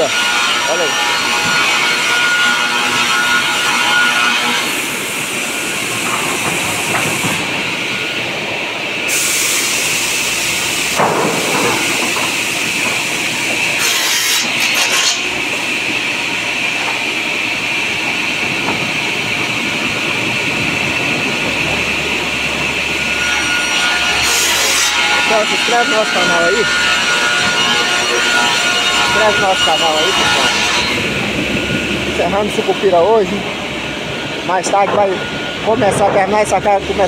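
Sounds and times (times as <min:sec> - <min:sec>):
circular saw cutting wood boards: 0:00.0 - 0:08.2, 0:09.0 - 0:37.0
sawmill machinery hissing and whining: 0:00.0 - 0:37.0.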